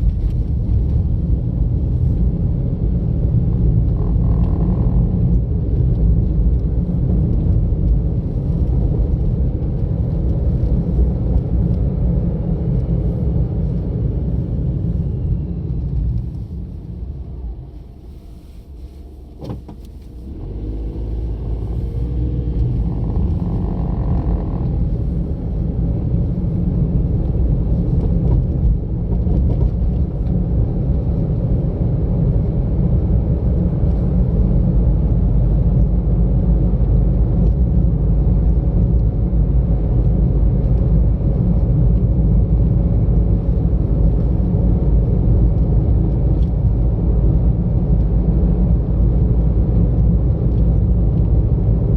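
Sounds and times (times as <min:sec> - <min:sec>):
car engine rumble: 0:00.0 - 0:51.9
tyre road noise: 0:00.0 - 0:51.9.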